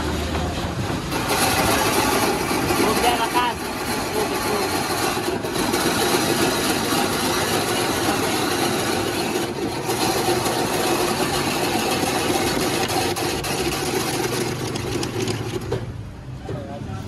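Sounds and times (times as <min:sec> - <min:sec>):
ice-shaving machine running: 0:01.1 - 0:15.8.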